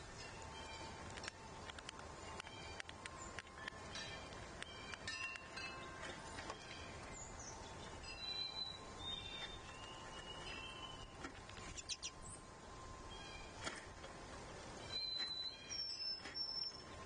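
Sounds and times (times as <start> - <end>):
birds chirping and whistling: 2.2 - 13.8, 14.4 - 17.0.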